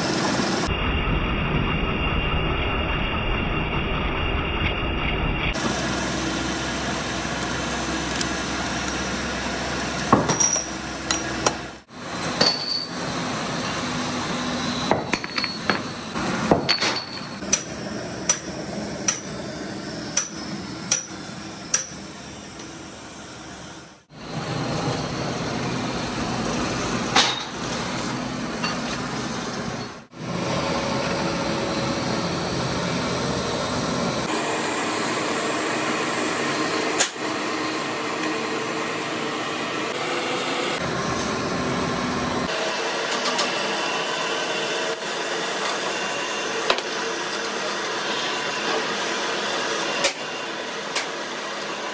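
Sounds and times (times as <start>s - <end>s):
workshop machinery running: 0.0s - 51.9s.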